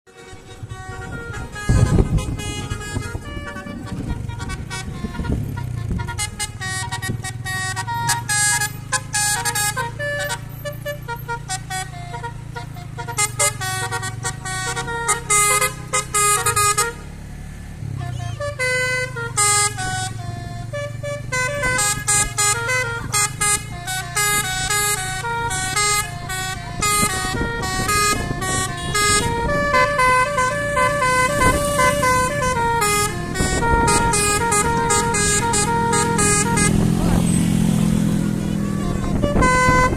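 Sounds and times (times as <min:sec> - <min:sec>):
bus engine rumble: 0:00.1 - 0:39.9
bus horn playing a melody: 0:00.1 - 0:39.9.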